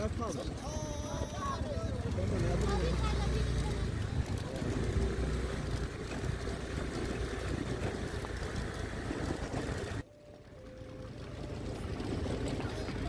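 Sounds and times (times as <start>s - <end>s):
bike rattling over stones: 0.0s - 13.0s
motorbike engine rumble: 0.0s - 13.0s.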